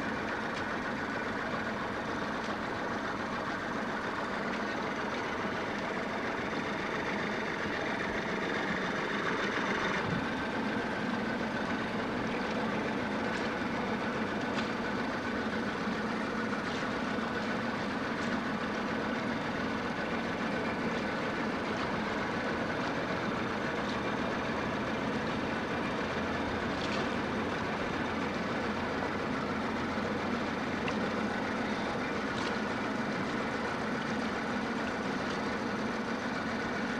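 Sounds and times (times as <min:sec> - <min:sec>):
boat engine running: 0:00.0 - 0:36.9.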